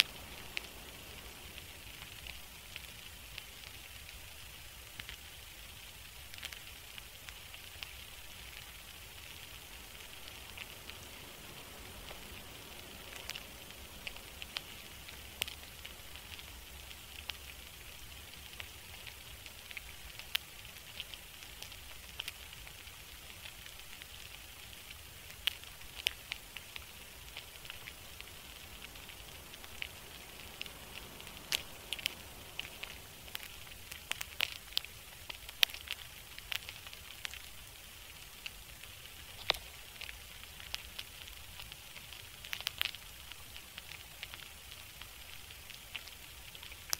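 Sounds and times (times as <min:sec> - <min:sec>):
sharp pops and crackles: 0:00.0 - 0:46.9
soft steady hiss: 0:00.0 - 0:46.9.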